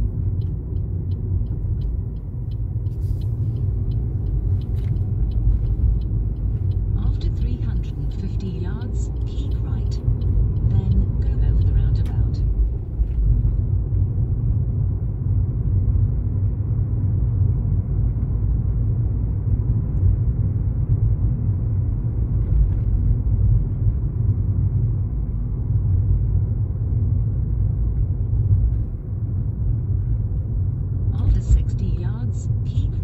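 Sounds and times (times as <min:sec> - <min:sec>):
car engine rumble: 0:00.0 - 0:33.0.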